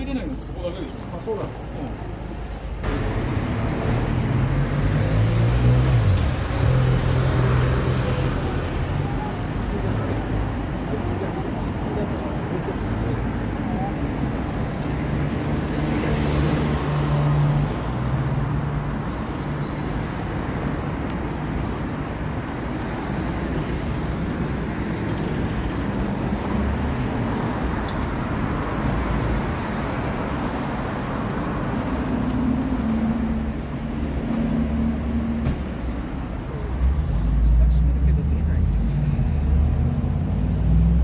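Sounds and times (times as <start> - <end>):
street traffic rumble: 0.0 - 41.0.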